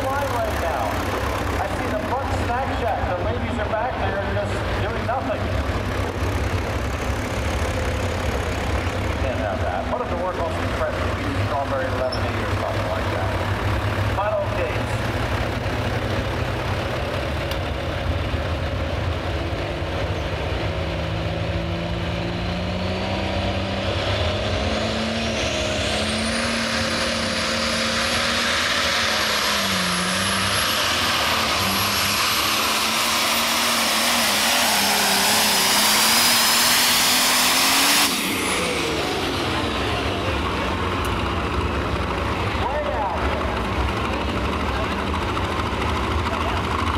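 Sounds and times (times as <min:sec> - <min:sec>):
high engine whine: 0:00.0 - 0:46.9
tractor engine under heavy load: 0:00.0 - 0:46.9.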